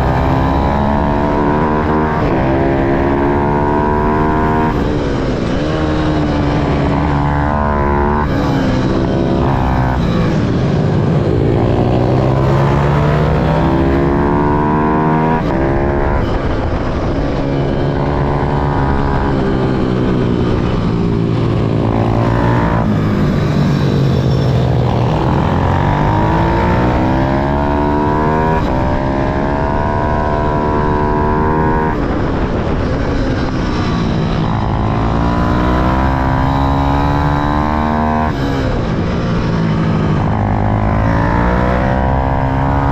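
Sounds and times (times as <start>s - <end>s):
small motorcycle engine revving: 0.0s - 42.9s.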